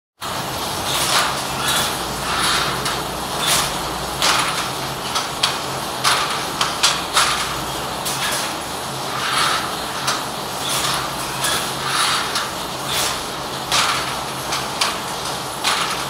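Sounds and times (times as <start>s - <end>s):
loom swishing: 0.2s - 16.0s
wooden loom knocking: 1.0s - 16.0s.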